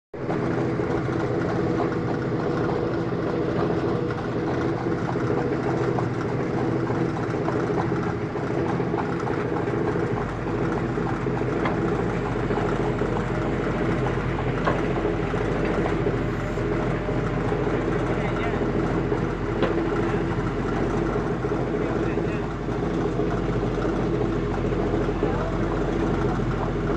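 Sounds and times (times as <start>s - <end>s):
heavy diesel engine running: 0.1s - 26.9s.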